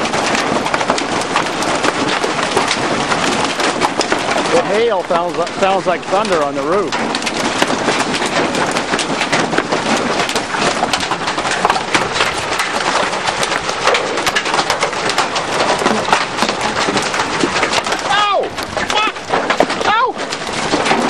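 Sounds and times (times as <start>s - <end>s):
hail clattering on a roof: 0.0s - 21.0s.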